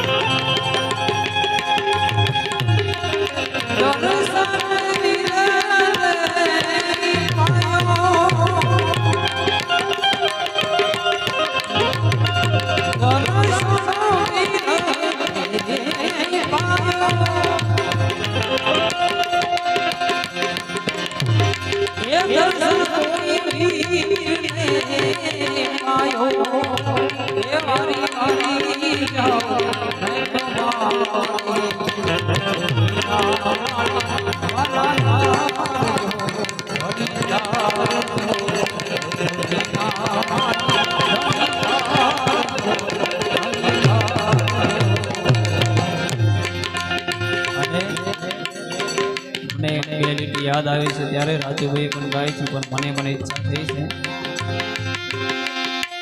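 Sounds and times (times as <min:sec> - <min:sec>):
tabla rhythm: 0:00.0 - 0:56.0.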